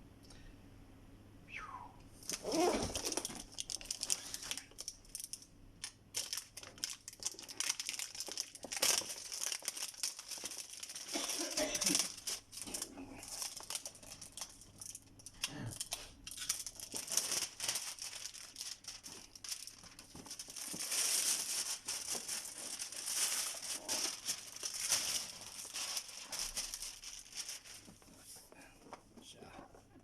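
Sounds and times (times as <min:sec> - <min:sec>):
packaging crinkling and tearing: 0:02.2 - 0:28.0.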